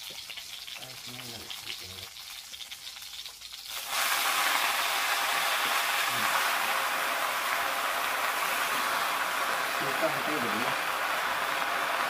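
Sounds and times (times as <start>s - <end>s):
greens sizzling in hot oil: 0.0s - 12.0s.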